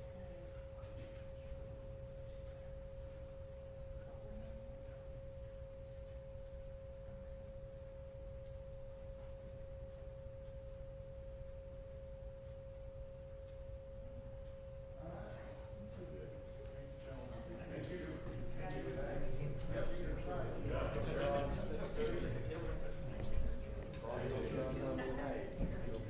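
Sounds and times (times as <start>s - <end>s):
electrical whine: 0.0s - 26.0s
low room hum: 0.0s - 26.0s.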